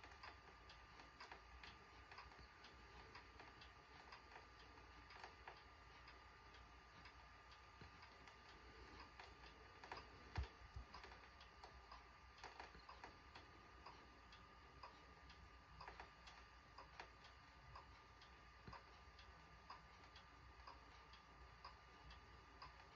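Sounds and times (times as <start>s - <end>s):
thin steady whine: 0.0s - 22.9s.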